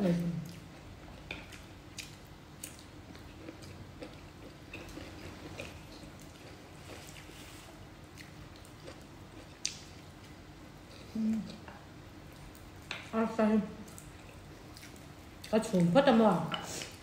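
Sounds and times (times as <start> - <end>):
chewing food: 0.4 - 13.1, 13.8 - 17.0.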